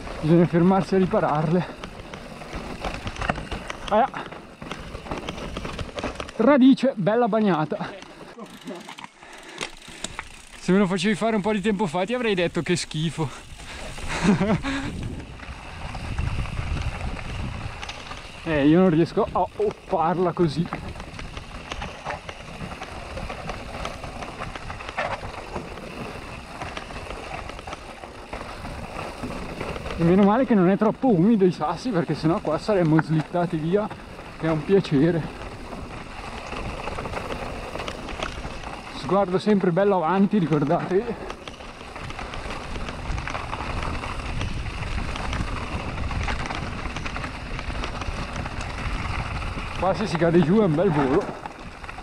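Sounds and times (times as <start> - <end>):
bike frame rattling over stones: 0.0 - 52.0
bike tyres rumbling on cobbles: 0.0 - 52.0.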